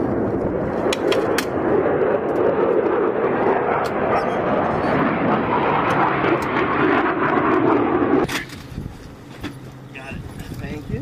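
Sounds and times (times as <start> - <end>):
jet engine running: 0.0 - 11.0.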